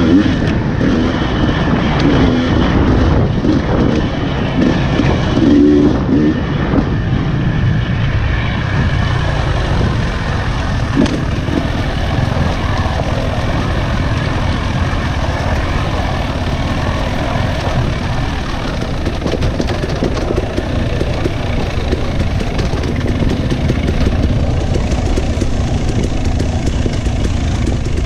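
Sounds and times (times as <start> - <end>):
dirt bike engine under throttle: 0.0 - 28.0.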